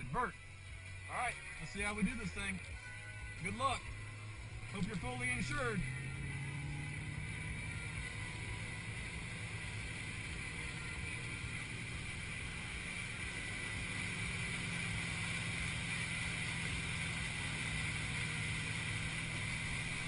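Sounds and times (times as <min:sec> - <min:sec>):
motorboat engine running: 0:01.8 - 0:20.0.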